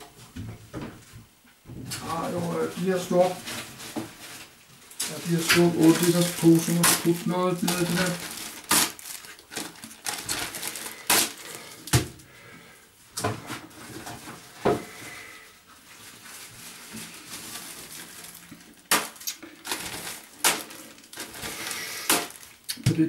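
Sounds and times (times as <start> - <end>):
plastic bags rustling: 1.9 - 23.0.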